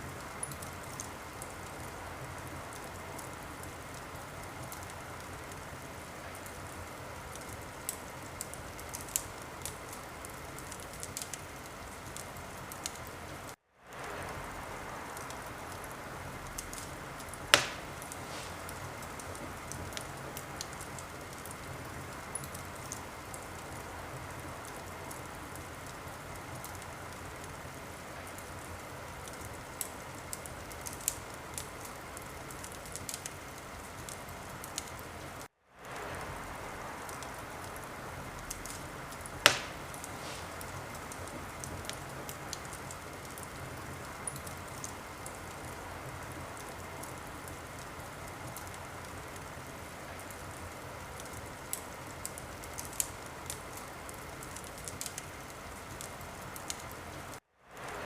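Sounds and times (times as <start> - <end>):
loud sharp fire crack: 0.0 - 58.0
wood fire crackling: 0.0 - 58.0.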